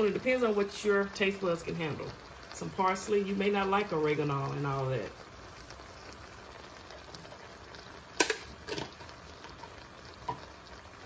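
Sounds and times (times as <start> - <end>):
meat and vegetables sizzling in a pan: 0.0 - 11.0.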